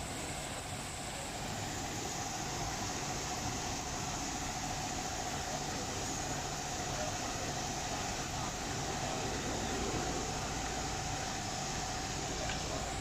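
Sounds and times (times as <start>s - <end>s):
constant machine whine: 0.0s - 13.0s
spraying water hiss: 0.0s - 13.0s.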